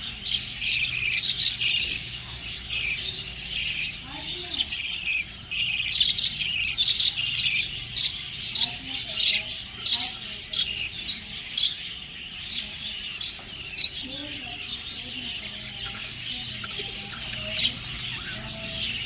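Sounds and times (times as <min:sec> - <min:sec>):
budgerigars chirping and chattering: 0:00.0 - 0:19.0.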